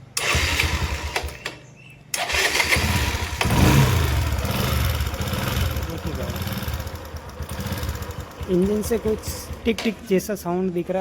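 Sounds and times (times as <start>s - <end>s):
motorcycle engine starting and idling: 0.0s - 11.0s.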